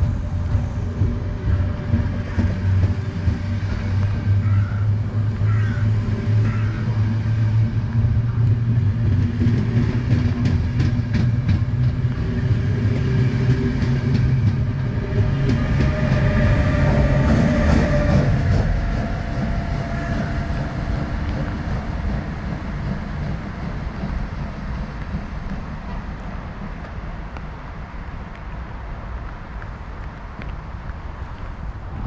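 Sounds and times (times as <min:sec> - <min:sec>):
wheels clicking over rail joints: 0:00.0 - 0:31.6
train rolling past: 0:00.0 - 0:32.0.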